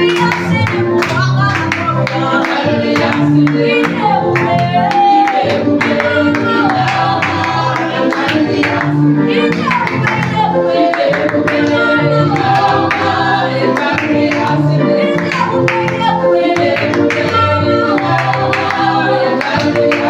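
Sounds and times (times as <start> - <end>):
instrumental backing: 0.0 - 20.0
singing voices: 0.0 - 20.0.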